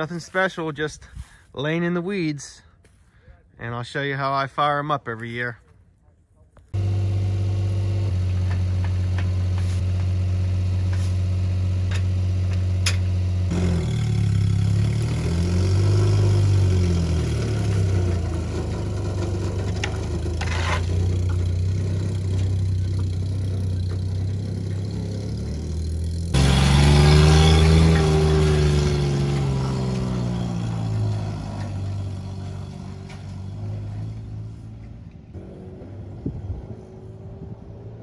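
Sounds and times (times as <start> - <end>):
small truck engine idling and revving: 6.7 - 38.0.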